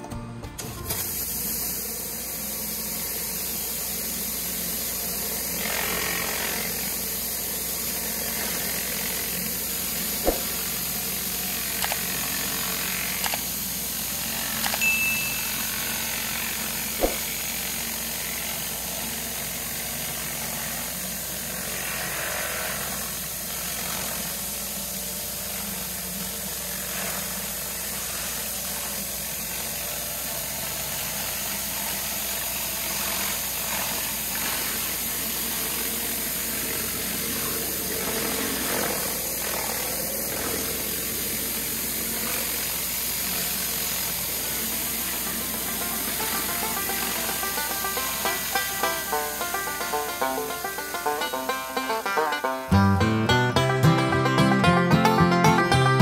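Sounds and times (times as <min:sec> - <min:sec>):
pressure washer running: 0:00.8 - 0:56.0.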